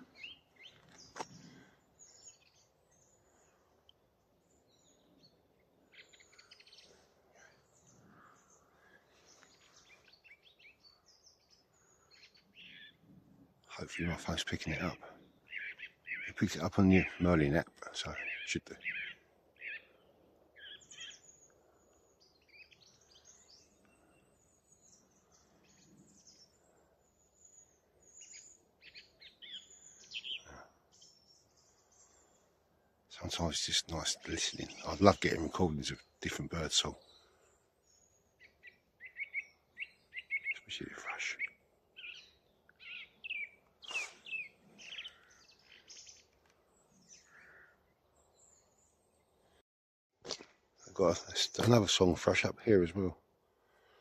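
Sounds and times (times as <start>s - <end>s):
song thrush singing: 0.0s - 49.6s, 50.3s - 54.0s.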